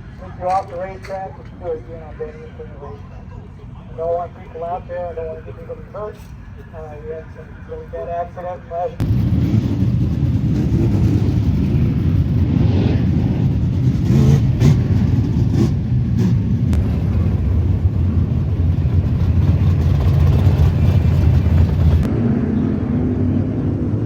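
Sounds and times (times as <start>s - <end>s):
race car engines running: 0.0s - 24.0s.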